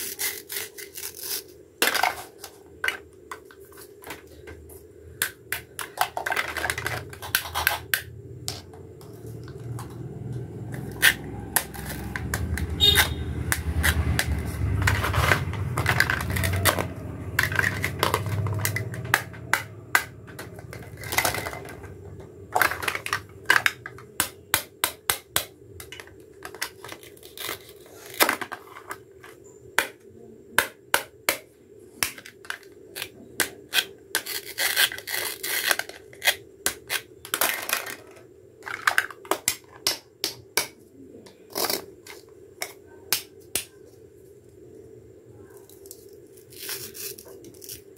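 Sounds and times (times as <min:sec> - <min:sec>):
plastic pieces rubbing and scraping: 0:00.0 - 0:24.8, 0:25.8 - 0:29.9, 0:32.0 - 0:40.0, 0:41.3 - 0:42.8, 0:45.6 - 0:47.9.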